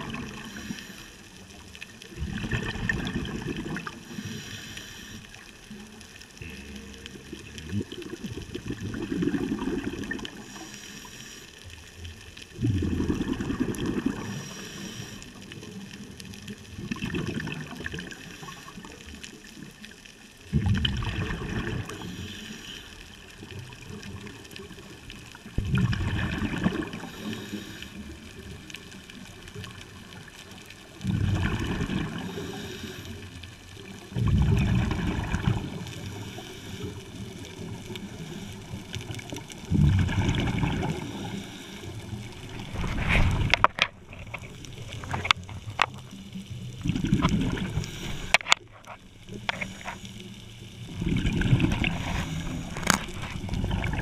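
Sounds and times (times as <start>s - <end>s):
underwater exhaled bubbles gurgling: 0.0s - 54.0s.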